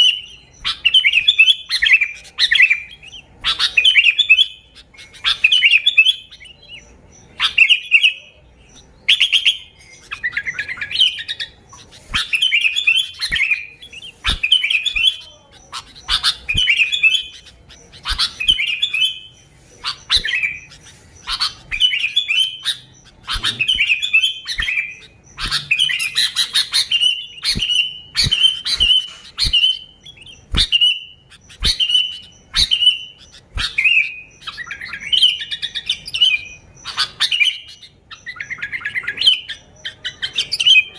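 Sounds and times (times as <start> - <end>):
bulbul singing bubbly chirps: 0.0 - 40.9.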